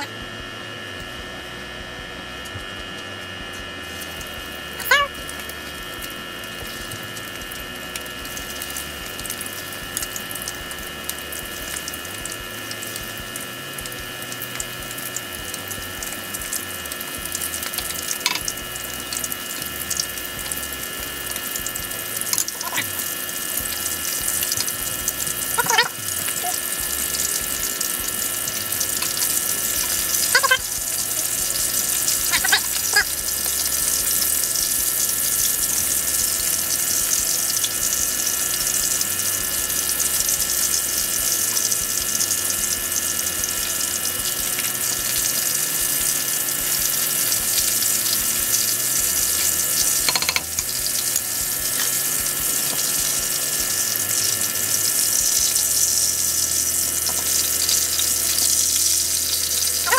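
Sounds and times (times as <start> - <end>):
fish frying in hot oil: 0.0 - 59.9.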